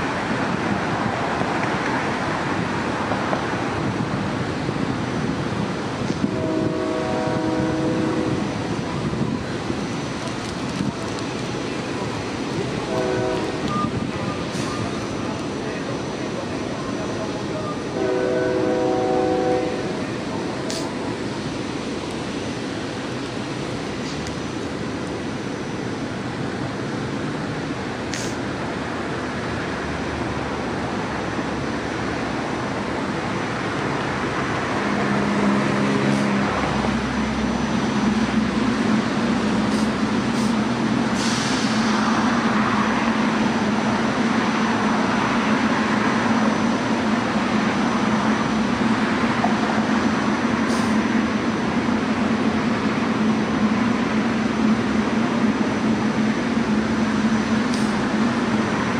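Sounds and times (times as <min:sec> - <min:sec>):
train rumbling by: 0:00.0 - 0:58.9.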